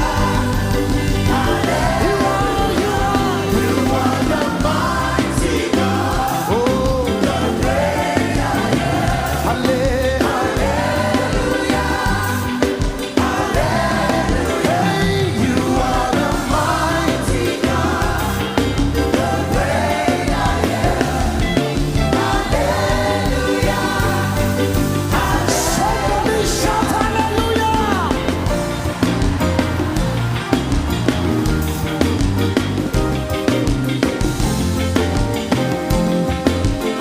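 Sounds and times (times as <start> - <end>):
band with steady bass: 0.0 - 37.0
voices singing gospel: 0.0 - 37.0.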